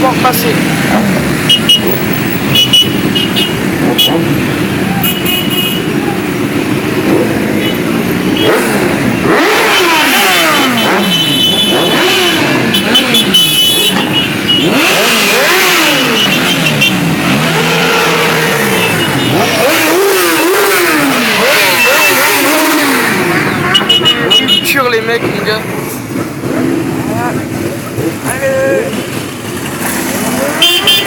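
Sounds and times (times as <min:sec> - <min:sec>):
motorcycle engines revving: 0:00.0 - 0:31.0
motorcycle engines rumbling: 0:00.0 - 0:31.0.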